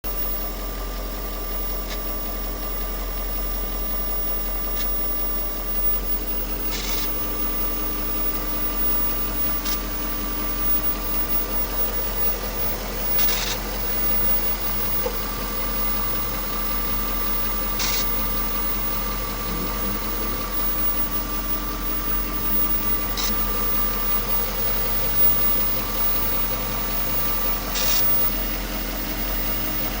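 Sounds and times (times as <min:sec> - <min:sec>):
static-like crackle: 0:00.1 - 0:28.3.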